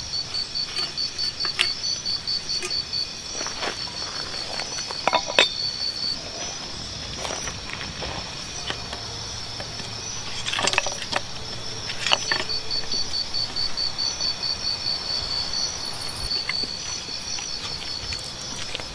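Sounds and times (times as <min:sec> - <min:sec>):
insects chirping: 0:00.0 - 0:18.9.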